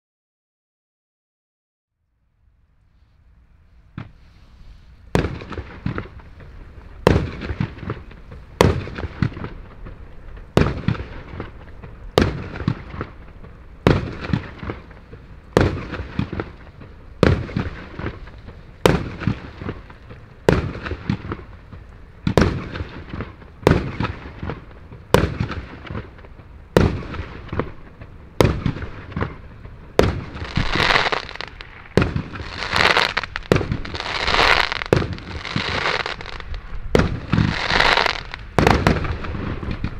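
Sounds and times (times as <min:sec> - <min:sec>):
firework crackling: 0:03.3 - 0:39.9
firework bangs: 0:03.9 - 0:04.4, 0:05.1 - 0:39.9.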